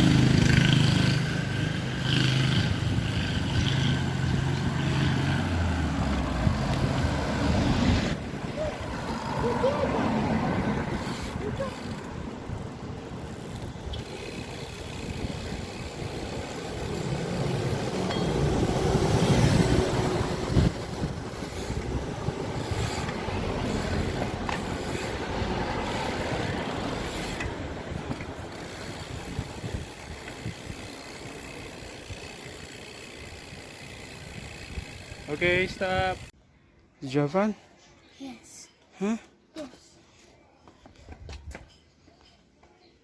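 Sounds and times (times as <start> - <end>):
passing motor vehicle: 0.0 - 36.3
steady road rumble: 0.0 - 36.8.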